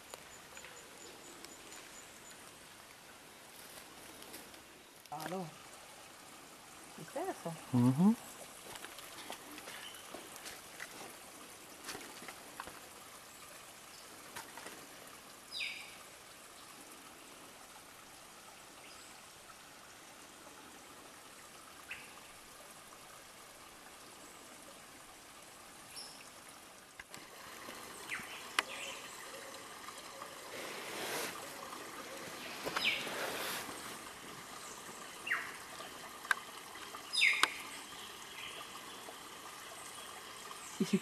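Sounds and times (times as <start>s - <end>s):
stream trickling: 0.0s - 41.0s.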